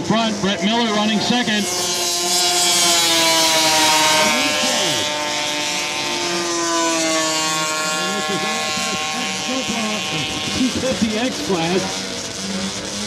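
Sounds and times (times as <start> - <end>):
snowmobile engines at high revs: 0.0 - 13.0.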